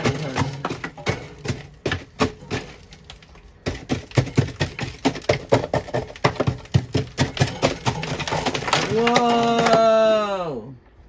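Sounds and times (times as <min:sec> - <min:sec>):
hard knocks and taps: 0:00.0 - 0:09.8.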